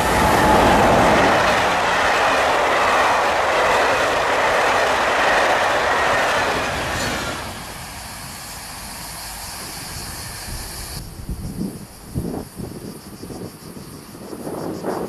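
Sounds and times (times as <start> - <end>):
passenger train passing: 0.0 - 12.7
train wheels rolling on rails: 0.0 - 12.7.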